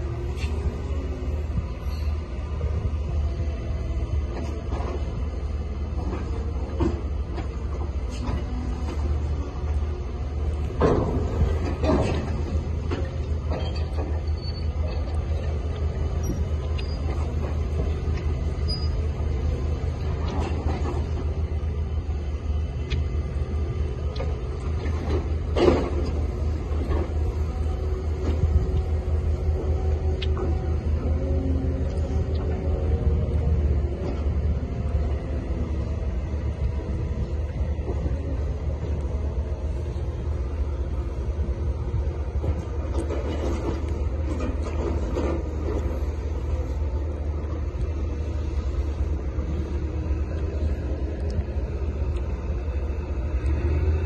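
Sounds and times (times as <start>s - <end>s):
heavy machinery rumble: 0.0s - 54.0s.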